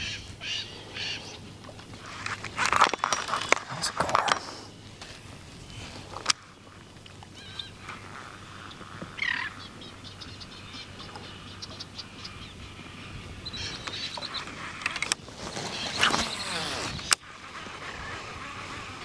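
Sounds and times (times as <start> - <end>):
birds chirping: 0.0 - 18.2.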